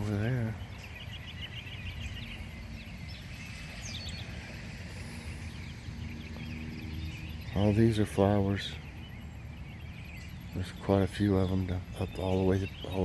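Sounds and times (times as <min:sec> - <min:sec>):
songbirds chirping and singing: 0:00.0 - 0:13.0
steady low rumble: 0:00.0 - 0:13.0.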